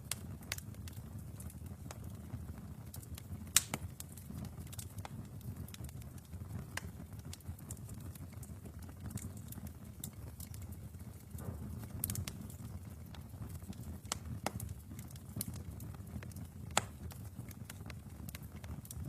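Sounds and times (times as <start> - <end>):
wood fire crackling in fireplace: 0.0 - 19.0.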